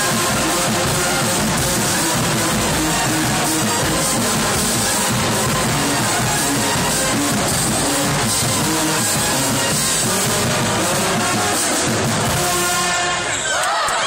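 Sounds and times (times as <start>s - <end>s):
marching drums: 0.0s - 13.2s
brass playing: 0.0s - 13.4s.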